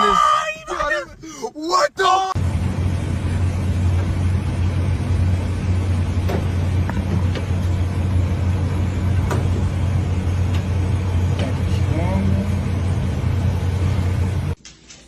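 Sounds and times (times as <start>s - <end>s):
engine humming: 2.4s - 14.6s.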